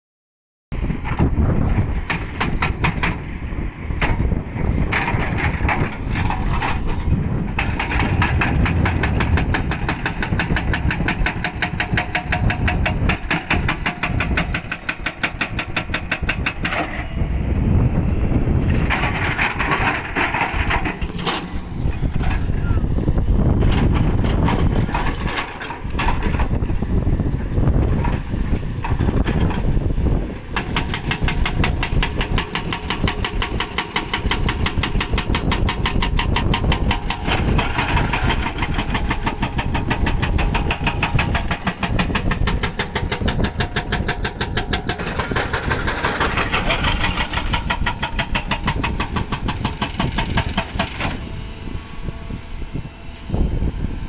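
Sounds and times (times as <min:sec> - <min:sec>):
heavy diesel machinery running: 0:00.8 - 0:54.0.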